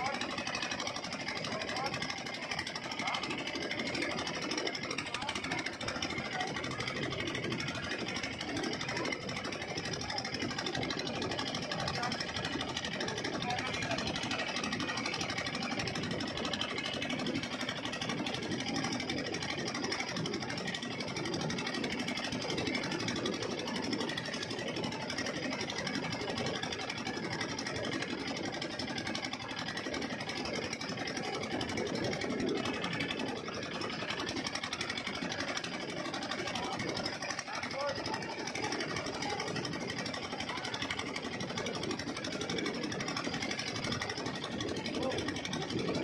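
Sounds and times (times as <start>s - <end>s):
small boat engine running: 0.0s - 46.0s.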